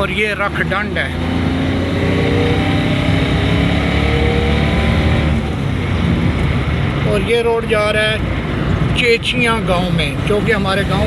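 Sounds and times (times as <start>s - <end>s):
road noise: 0.0s - 11.0s
vehicle engine driving: 0.0s - 11.0s.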